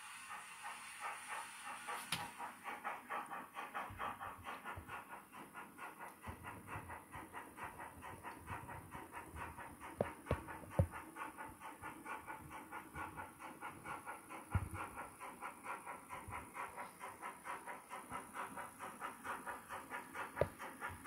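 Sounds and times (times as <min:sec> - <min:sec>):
model train steam chuffs: 0:00.0 - 0:21.0.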